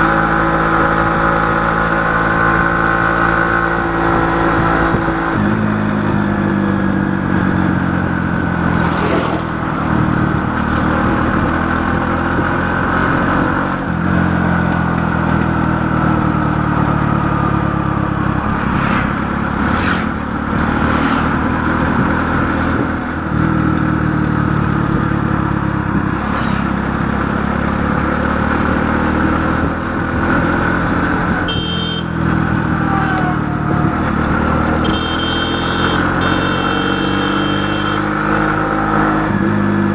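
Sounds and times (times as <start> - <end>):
vehicle engine running: 5.4 - 38.2.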